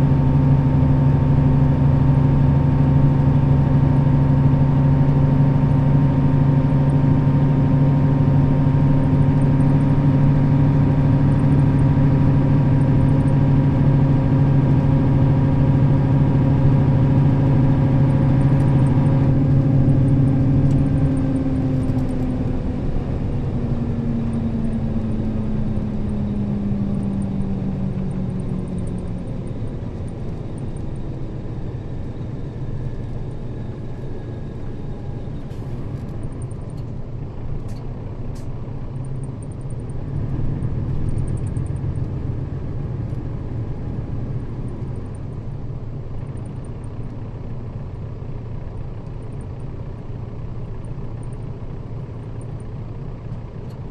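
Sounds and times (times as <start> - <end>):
bus engine and driveline whine: 0.0 - 53.9
road rumble: 0.0 - 53.9.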